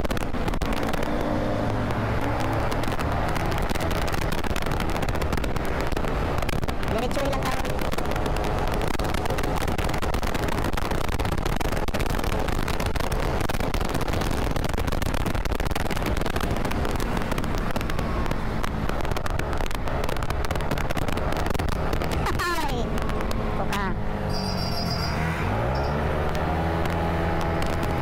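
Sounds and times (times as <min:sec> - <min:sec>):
wind buffeting on microphone: 0:00.0 - 0:24.1
scooter engine and road noise: 0:00.0 - 0:28.0.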